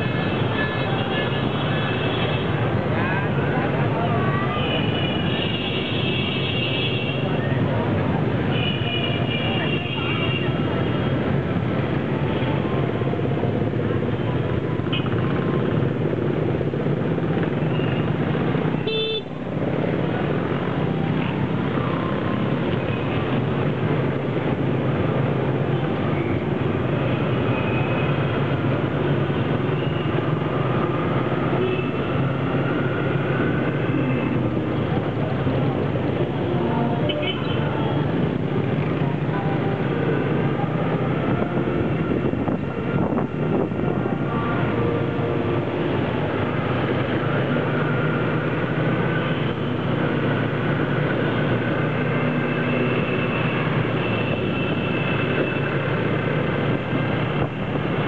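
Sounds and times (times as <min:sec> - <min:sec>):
city traffic: 0:00.0 - 0:58.0
motorbike engines droning: 0:00.0 - 0:58.0.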